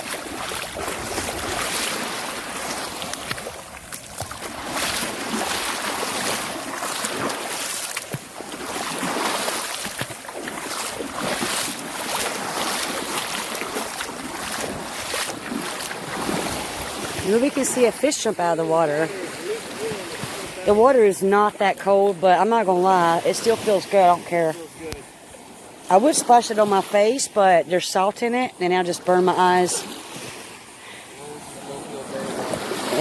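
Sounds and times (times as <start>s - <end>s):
seawater lapping and sloshing: 0.0s - 33.0s.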